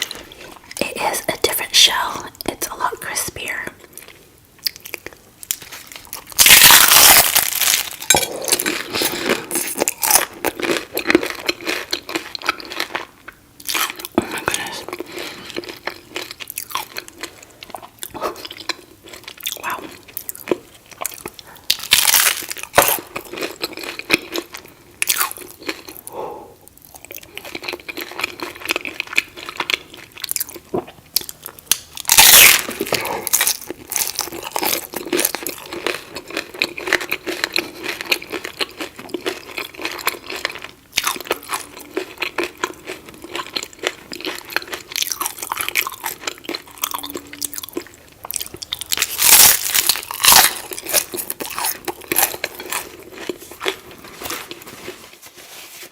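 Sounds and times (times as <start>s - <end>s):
crunchy taco shell chewing: 4.0s - 55.1s.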